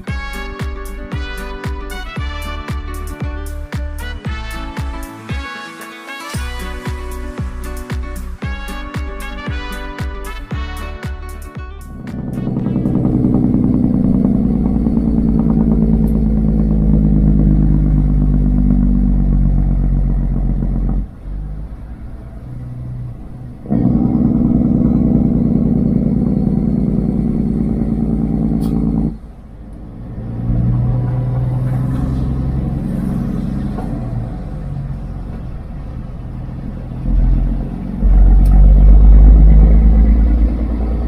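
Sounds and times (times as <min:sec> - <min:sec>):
truck diesel engine running: 0:00.0 - 0:05.5, 0:06.4 - 0:41.0.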